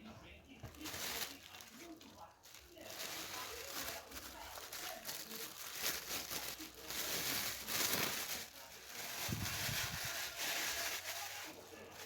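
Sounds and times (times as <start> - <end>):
packaging crinkling and rustling: 0.6 - 12.0.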